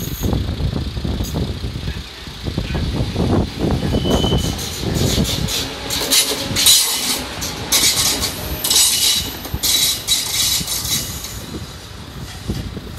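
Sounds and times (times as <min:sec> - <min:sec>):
train low rumble: 0:00.0 - 0:12.9
train wheels hissing on rails: 0:01.2 - 0:12.9.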